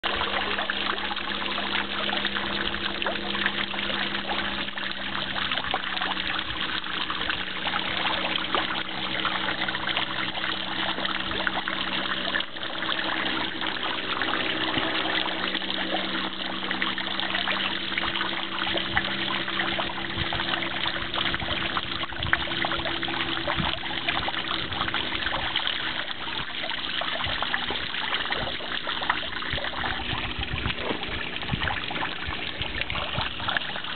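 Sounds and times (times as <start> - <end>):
low steady hum: 0.0 - 33.9
water trickling over rocks: 0.0 - 33.9.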